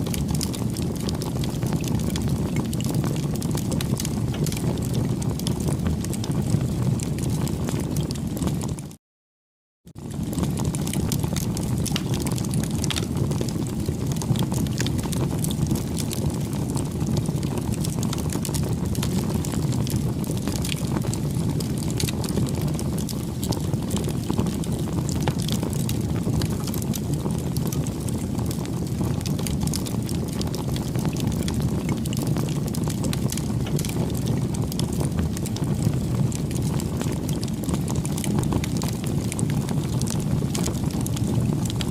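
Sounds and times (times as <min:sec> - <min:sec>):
burning wood crackling: 0:00.0 - 0:08.7, 0:10.0 - 0:41.9
bonfire flames rumbling: 0:00.0 - 0:09.0, 0:09.9 - 0:41.9.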